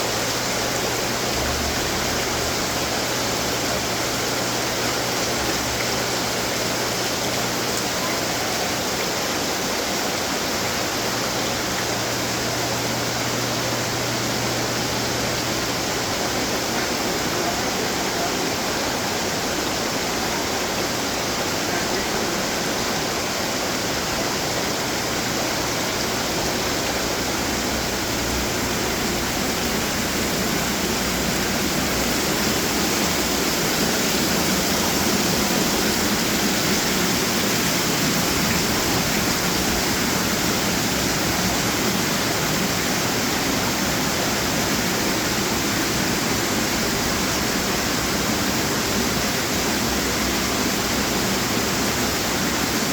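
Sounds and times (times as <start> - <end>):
fountain water splashing: 0.0 - 52.9.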